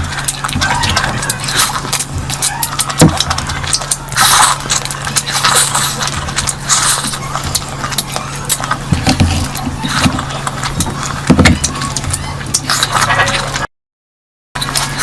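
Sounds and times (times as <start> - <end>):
chewing and mouth smacking: 0.0 - 13.7, 14.6 - 15.0.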